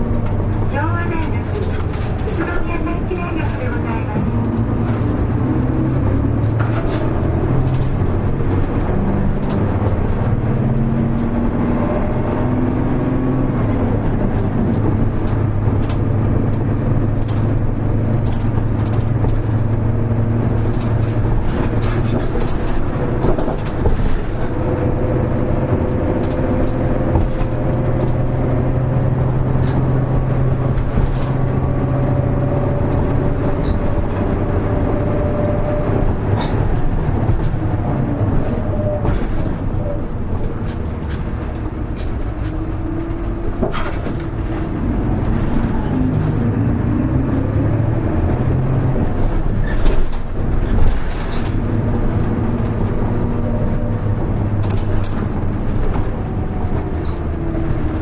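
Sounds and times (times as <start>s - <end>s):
light clicks and rattles: 0.0s - 47.6s, 48.2s - 58.0s
bus diesel engine: 0.0s - 58.0s.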